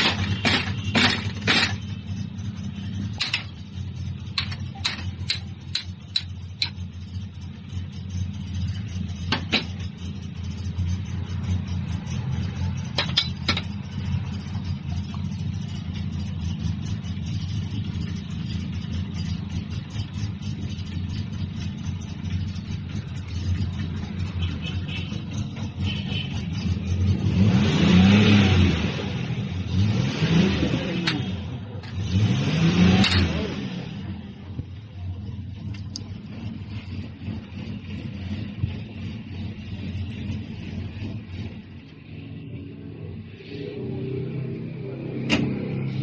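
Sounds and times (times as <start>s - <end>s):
diesel engine idling and revving: 0.0s - 46.0s.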